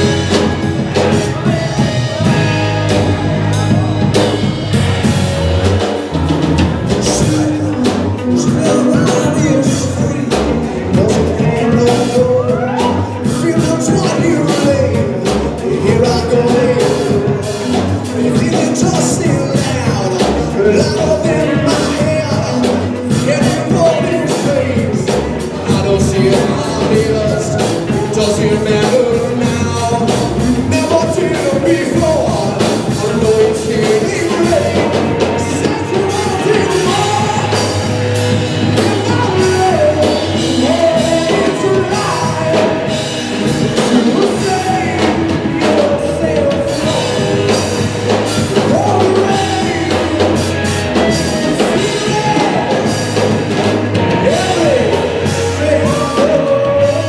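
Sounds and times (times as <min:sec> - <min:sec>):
drum kit: 0:00.0 - 0:57.0
guitars: 0:00.0 - 0:57.0
live rock band playing: 0:00.0 - 0:57.0
person singing: 0:00.0 - 0:57.0.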